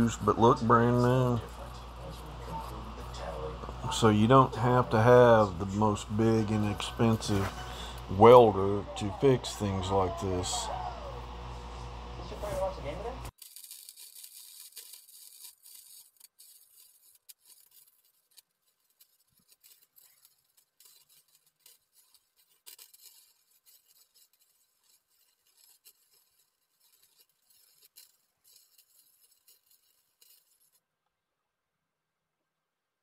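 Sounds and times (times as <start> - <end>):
welder crackling and sizzling: 0.0 - 30.8.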